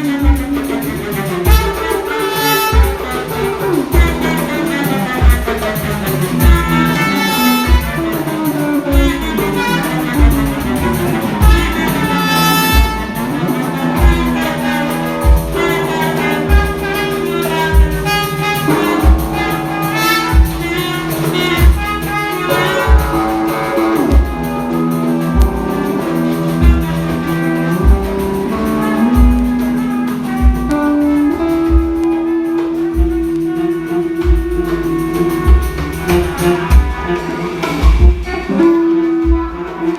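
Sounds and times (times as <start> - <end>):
deep drum beat thumping: 0.0 - 39.9
sustained bass notes: 0.0 - 39.9.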